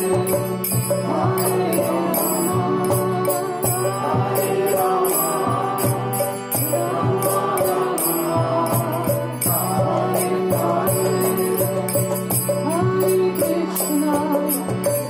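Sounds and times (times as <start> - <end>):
devotional chanting: 0.0 - 15.0
hand cymbals beating: 0.0 - 15.0
steady held drone: 0.0 - 15.0.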